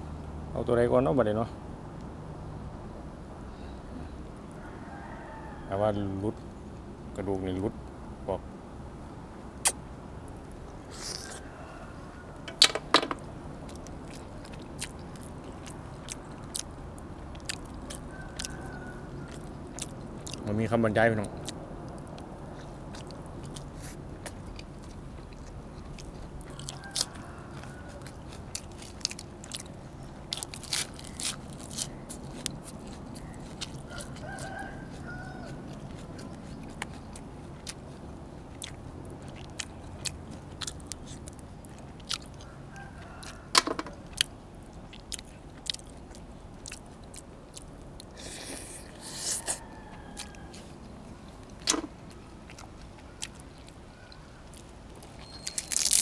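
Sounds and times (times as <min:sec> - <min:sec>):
chewing and biting: 0:09.6 - 0:11.7, 0:13.2 - 0:56.0.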